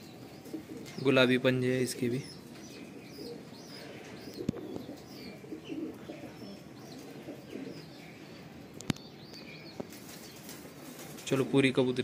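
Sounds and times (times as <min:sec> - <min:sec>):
pigeons cooing: 0:00.0 - 0:11.2.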